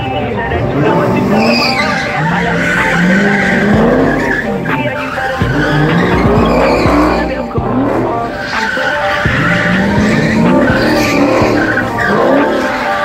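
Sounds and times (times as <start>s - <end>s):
car engine revving: 0.0s - 13.0s
tires skidding on wet pavement: 0.7s - 13.0s.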